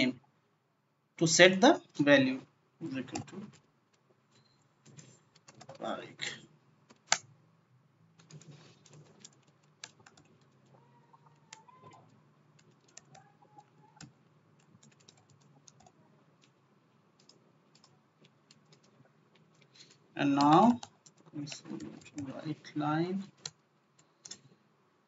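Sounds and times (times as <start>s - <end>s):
faint keyboard typing: 2.8s - 7.4s, 8.1s - 24.6s.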